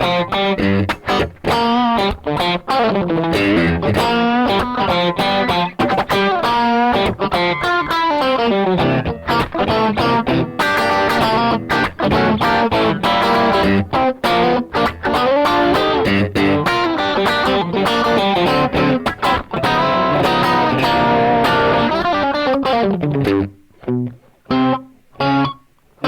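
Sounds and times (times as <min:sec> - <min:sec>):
overdriven electric guitar: 0:00.0 - 0:26.0.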